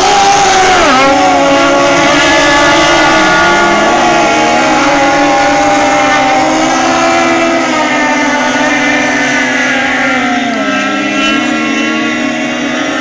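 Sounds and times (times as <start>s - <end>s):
powerboat engines at full throttle: 0.0s - 13.0s.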